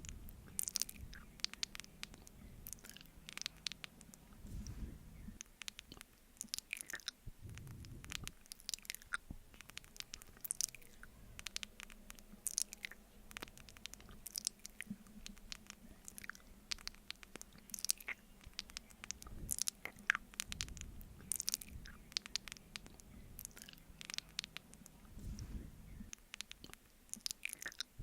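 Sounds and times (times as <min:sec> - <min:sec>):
sticky wet mouth clicks: 0:00.5 - 0:04.6, 0:05.4 - 0:25.5, 0:26.1 - 0:28.0.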